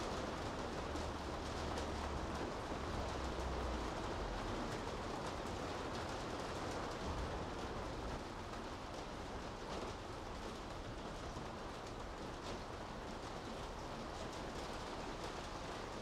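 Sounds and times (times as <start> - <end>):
rain falling on street: 0.0 - 16.0.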